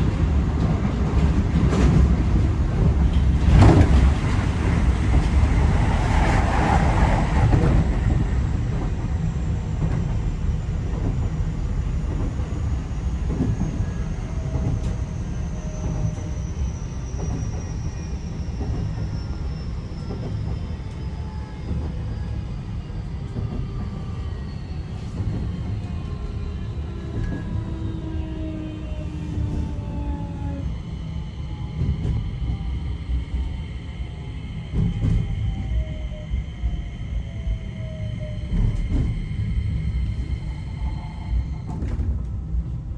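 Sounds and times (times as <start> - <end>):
train running rumble: 0.0 - 42.9.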